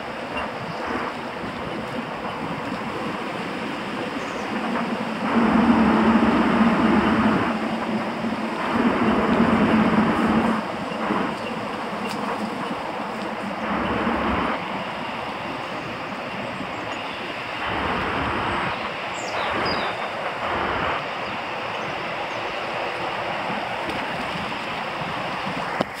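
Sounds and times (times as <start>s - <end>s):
wind buffeting the microphone: 0.0s - 26.0s.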